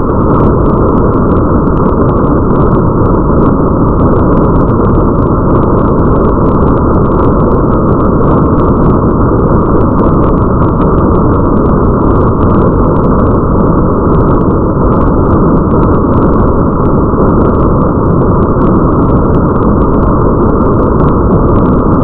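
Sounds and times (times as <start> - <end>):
steady rain: 0.0 - 22.0
raindrops ticking: 0.1 - 22.0.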